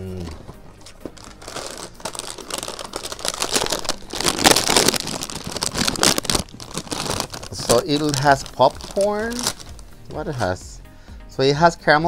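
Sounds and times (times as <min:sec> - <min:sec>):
plastic bag crinkling: 0:00.4 - 0:10.5.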